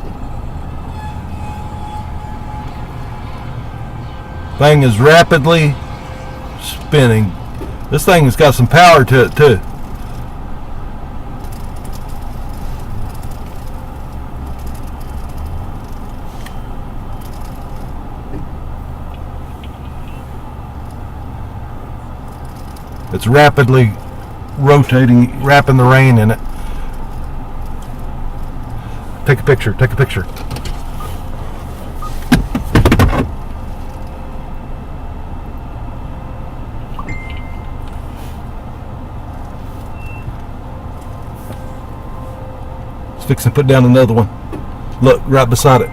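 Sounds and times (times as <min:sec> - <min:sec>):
knocks and buffeting: 0:00.0 - 0:45.9
vehicle engine low rumble: 0:00.0 - 0:45.9.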